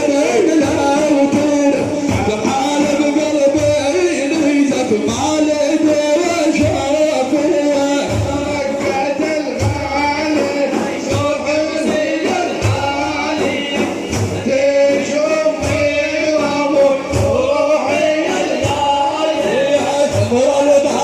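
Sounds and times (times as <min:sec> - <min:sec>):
man singing melismatic line: 0:00.0 - 0:21.0
slow frame drum beat: 0:00.0 - 0:21.0.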